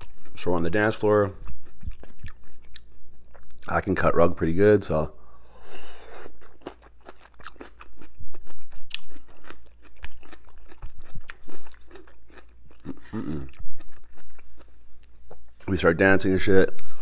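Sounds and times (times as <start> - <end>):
person chewing crunchy food: 0.0 - 3.7, 5.6 - 15.6.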